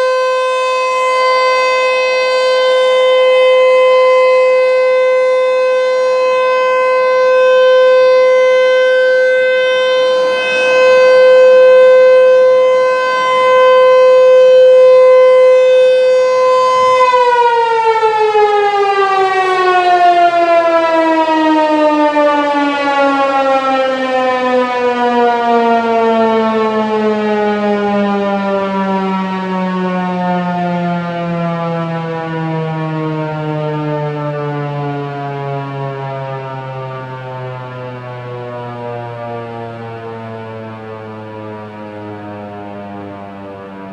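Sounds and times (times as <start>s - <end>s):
siren winding down: 0.0s - 43.9s
tornado siren steady tone: 0.0s - 43.9s.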